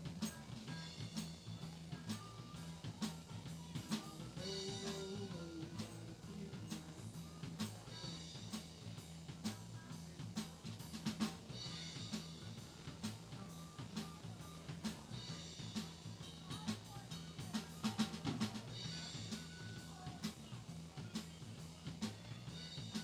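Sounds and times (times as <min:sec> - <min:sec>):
drum kit beat: 0:00.0 - 0:23.0
live band playing: 0:00.0 - 0:23.0
stepping bass line: 0:00.0 - 0:23.0.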